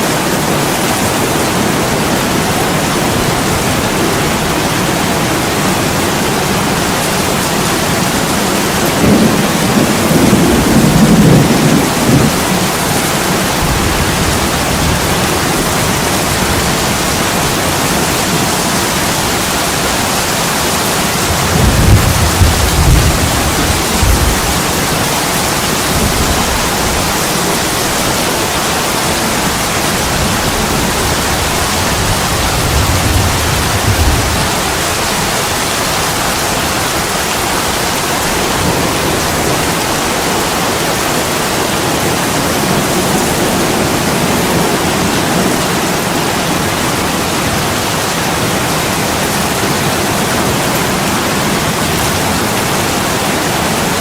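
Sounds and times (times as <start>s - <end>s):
heavy rain on window glass: 0.0s - 54.0s.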